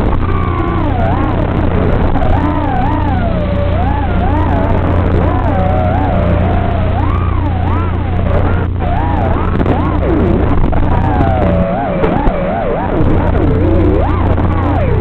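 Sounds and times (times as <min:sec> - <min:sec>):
low electrical hum: 0:00.0 - 0:15.0
quadcopter motors whining: 0:00.0 - 0:15.0.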